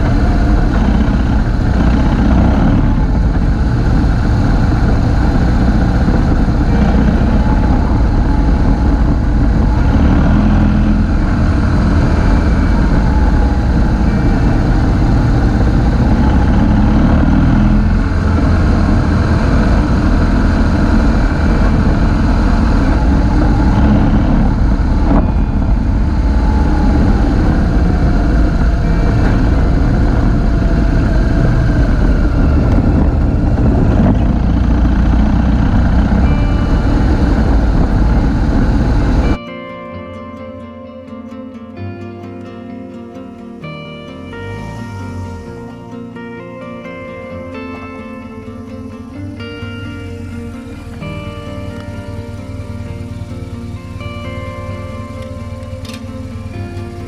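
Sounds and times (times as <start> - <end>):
motorcycle engine running: 0.0 - 39.4, 43.6 - 57.0.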